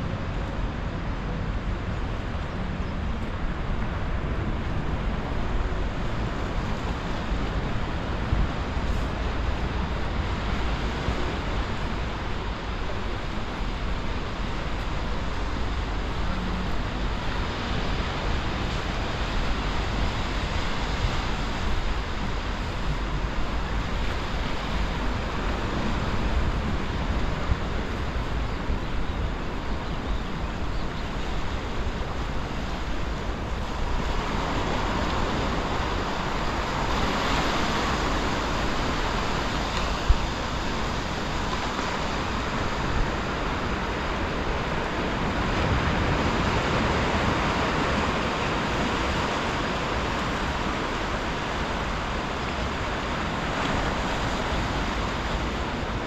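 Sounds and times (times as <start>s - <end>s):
sea surf washing: 0.0s - 56.0s
wind rumbling on microphone: 0.0s - 56.0s.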